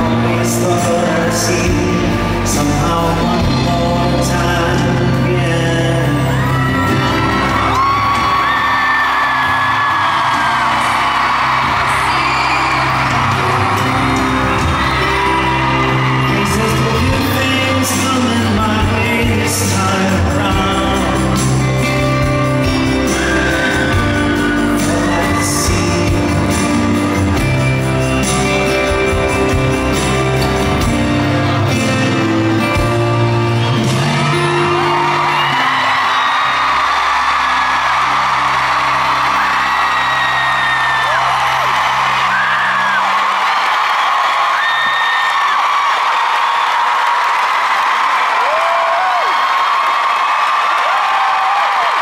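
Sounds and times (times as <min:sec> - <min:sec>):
person singing: 0:00.0 - 0:43.3
acoustic guitars playing: 0:00.0 - 0:43.8
audience whooping and shouting: 0:05.6 - 0:32.9, 0:33.5 - 0:52.0.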